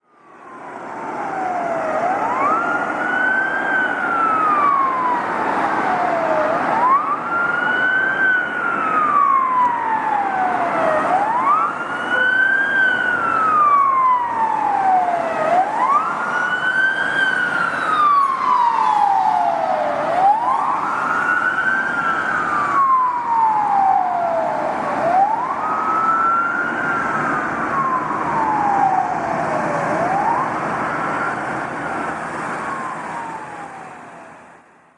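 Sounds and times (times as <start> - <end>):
police siren wailing: 0.1 - 34.7.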